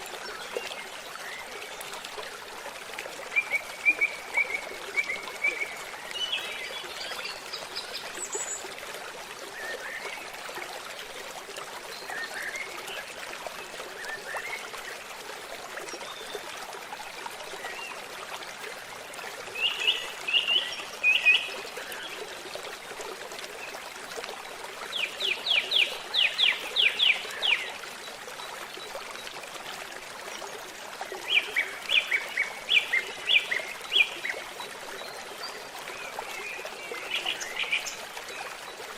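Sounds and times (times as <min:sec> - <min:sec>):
babbling stream trickling: 0:00.0 - 0:38.9.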